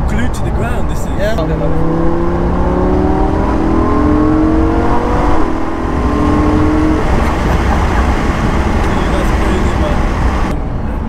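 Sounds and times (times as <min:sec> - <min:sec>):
car engine accelerating: 0:00.0 - 0:11.0
low road rumble: 0:00.0 - 0:11.0.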